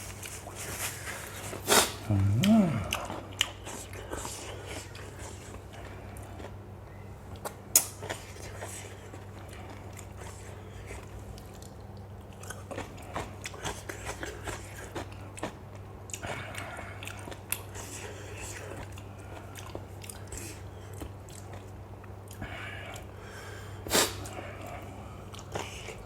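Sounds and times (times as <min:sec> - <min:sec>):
person chewing crunchy food: 0:00.0 - 0:06.6, 0:07.3 - 0:23.3, 0:24.0 - 0:26.0
low electrical hum: 0:00.0 - 0:26.0.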